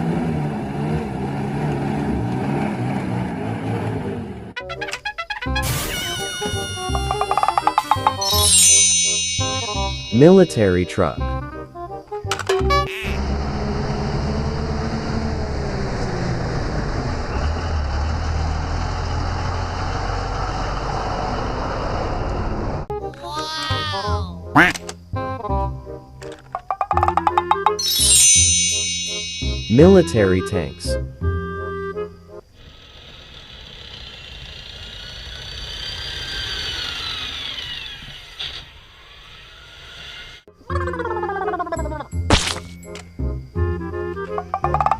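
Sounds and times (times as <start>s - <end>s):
truck engine rumbling: 0.0s - 23.1s, 23.8s - 38.0s, 40.5s - 44.9s.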